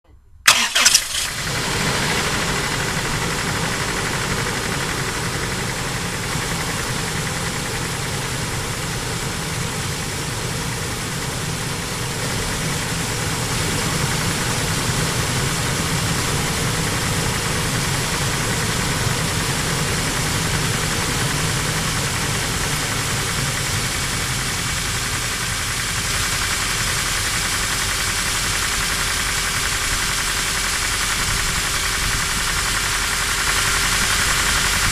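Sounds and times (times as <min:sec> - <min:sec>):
car engine starting and idling: 0:00.0 - 0:34.9
engine knocking: 0:00.5 - 0:34.9.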